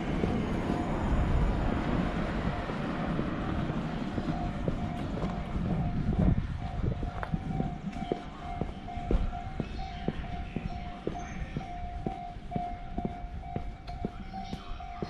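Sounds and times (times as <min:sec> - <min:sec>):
level crossing alarm ringing: 0:00.0 - 0:15.0.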